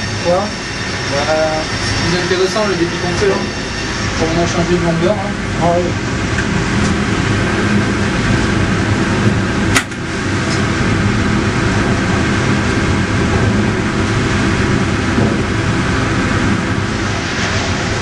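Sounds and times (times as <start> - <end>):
sawmill machinery din: 0.0 - 18.0.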